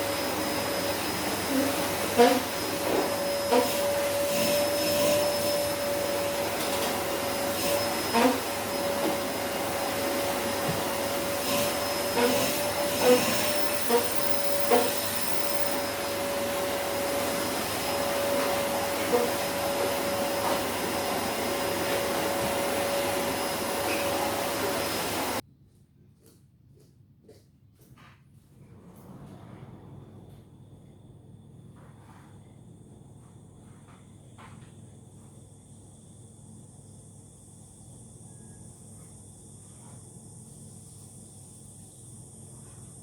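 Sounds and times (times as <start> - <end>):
vacuum cleaner running: 0.0 - 25.4, 28.6 - 43.0.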